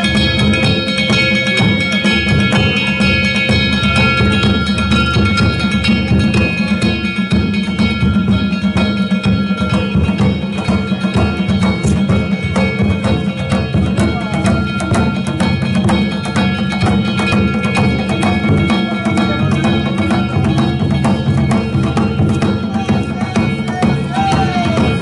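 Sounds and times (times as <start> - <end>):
metal hand gongs clanging: 0.0 - 25.0
taiko drum rapid rhythm: 0.0 - 25.0.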